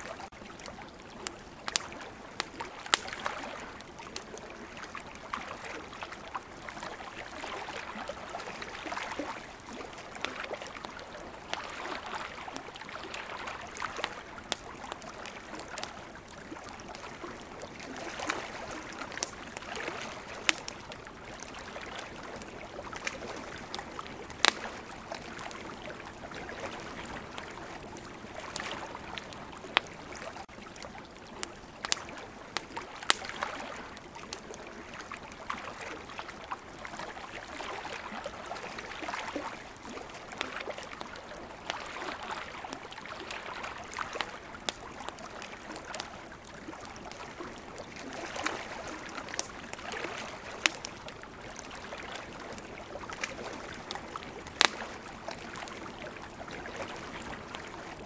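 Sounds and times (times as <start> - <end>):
campfire crackling and popping: 0.0 - 58.0
ocean waves: 1.7 - 30.5, 32.1 - 58.0.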